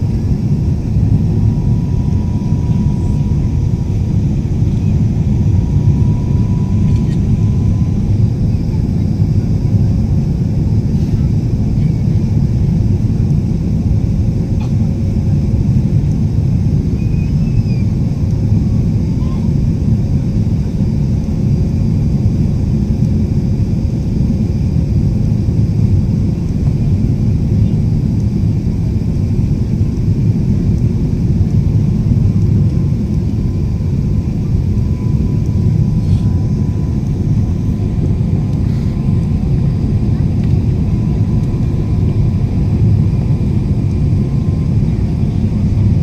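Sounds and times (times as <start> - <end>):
airliner cabin rumble: 0.0 - 46.0.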